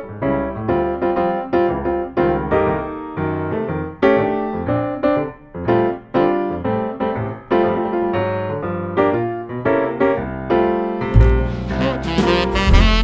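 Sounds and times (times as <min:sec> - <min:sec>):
lively piano music: 0:00.0 - 0:13.0.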